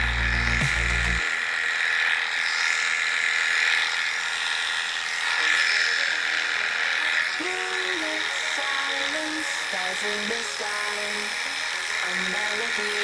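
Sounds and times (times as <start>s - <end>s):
electric pet clipper running: 0.0s - 13.0s.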